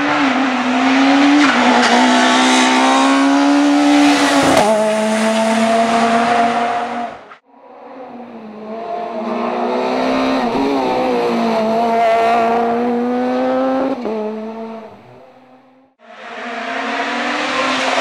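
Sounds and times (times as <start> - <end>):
rally car engine at high revs: 0.0 - 18.0.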